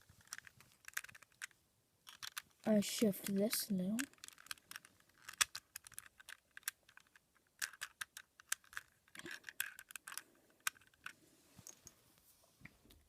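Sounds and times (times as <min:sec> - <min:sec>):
plastic puzzle cube clicking: 0:00.2 - 0:11.2.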